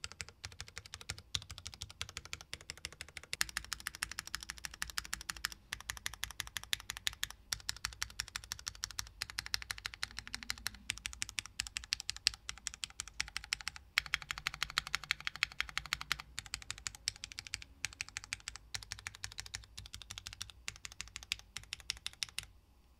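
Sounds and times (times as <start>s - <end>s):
fast typing on mechanical keyboard: 0.0s - 22.5s.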